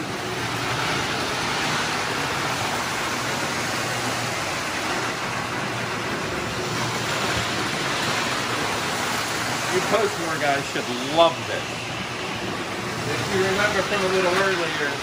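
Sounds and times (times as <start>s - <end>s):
toy trains whirring: 0.0s - 15.0s.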